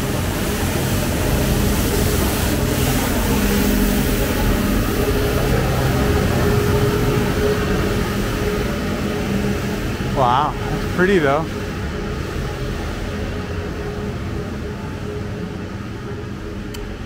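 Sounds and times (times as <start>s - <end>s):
rushing noise: 0.0s - 17.0s
street sweeper engine hum: 0.0s - 17.0s.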